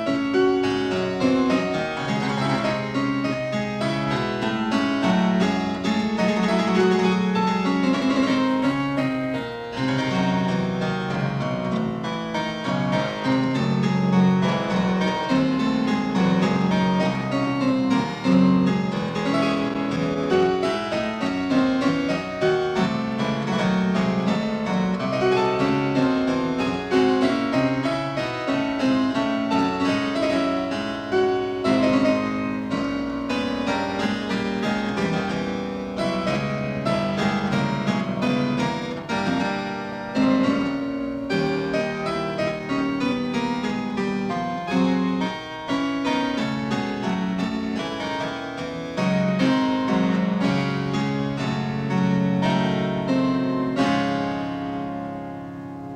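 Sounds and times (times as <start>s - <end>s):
classical piano music: 0.0s - 55.9s.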